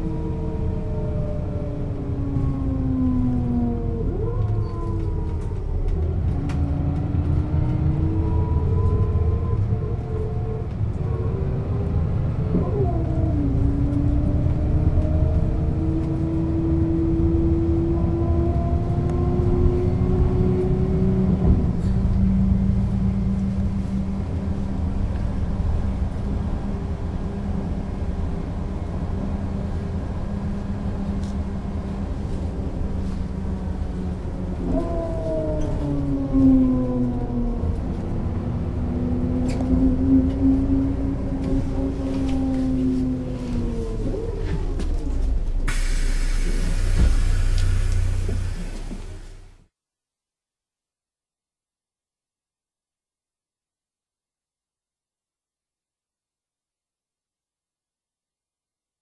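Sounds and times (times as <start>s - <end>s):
bus engine whine: 0.0s - 49.6s.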